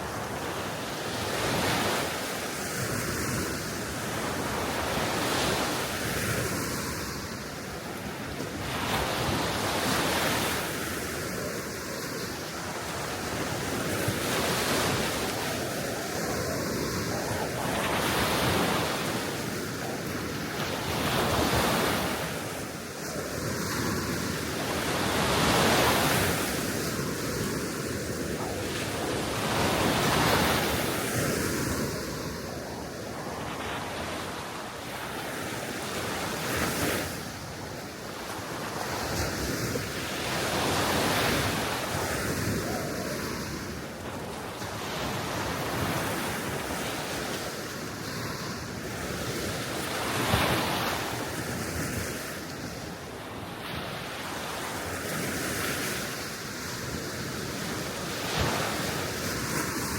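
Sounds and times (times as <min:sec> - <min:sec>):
wind blowing: 0:00.0 - 0:54.9
gentle waves washing ashore: 0:00.0 - 0:59.9.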